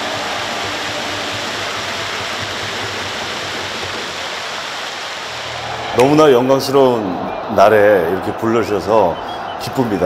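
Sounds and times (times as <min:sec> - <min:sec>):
stadium crowd applauding: 0:00.0 - 0:10.0.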